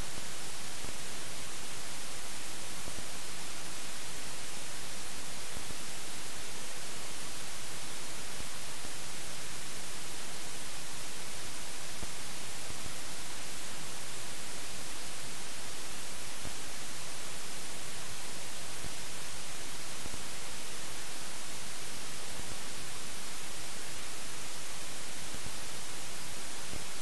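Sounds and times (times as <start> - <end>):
electronic hiss and static: 0.0 - 27.0.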